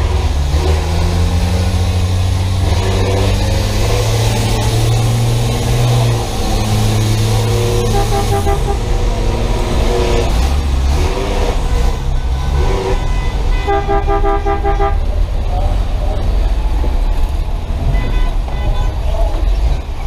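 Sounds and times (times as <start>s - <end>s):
bus engine revving: 0.0s - 20.0s.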